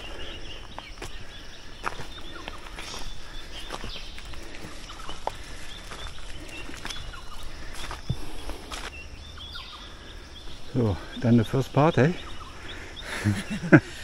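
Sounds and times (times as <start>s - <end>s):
bird chirps: 0.0s - 14.0s
footsteps on wet forest track: 0.0s - 14.0s.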